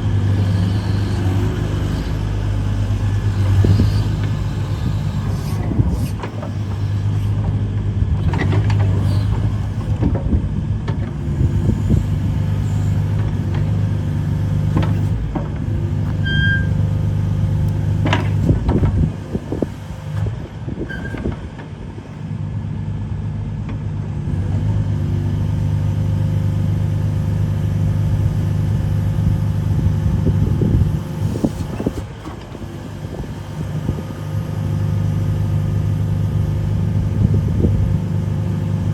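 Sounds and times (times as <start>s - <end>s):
diesel excavator engine running: 0.0s - 38.9s.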